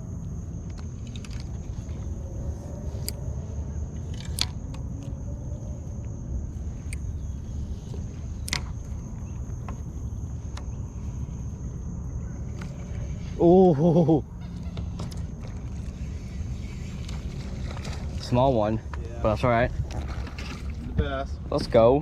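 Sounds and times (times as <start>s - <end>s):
high insect drone: 0.0s - 22.0s
low steady rumble: 0.0s - 22.0s.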